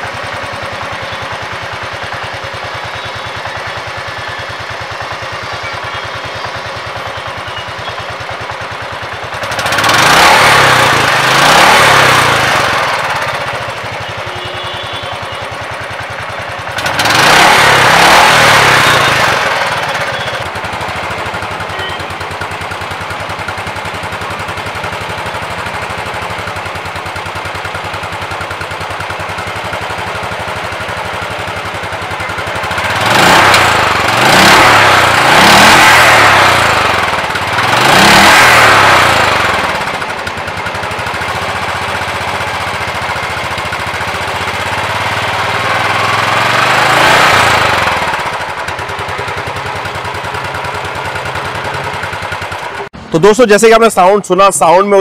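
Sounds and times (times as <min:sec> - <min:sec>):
motorcycle engine revving: 0:00.0 - 0:53.4
motorcycle engine idling: 0:00.0 - 0:55.0.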